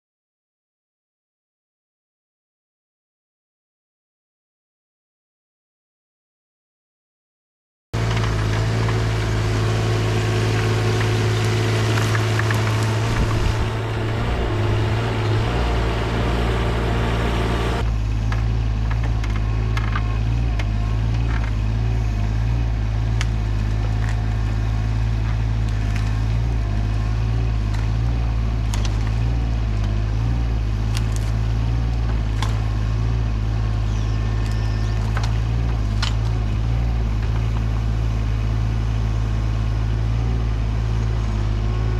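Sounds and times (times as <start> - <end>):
excavator diesel engine running: 8.0 - 41.9.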